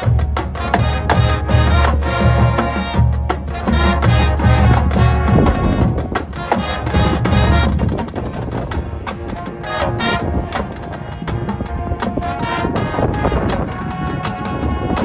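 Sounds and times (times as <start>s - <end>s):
drums: 0.0s - 15.0s
marching band brass chords: 0.0s - 15.0s.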